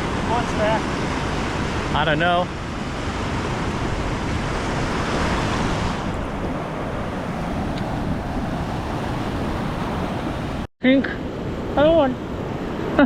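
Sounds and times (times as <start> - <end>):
ocean surf on shore: 0.0 - 13.0
wind on microphone: 0.0 - 13.0.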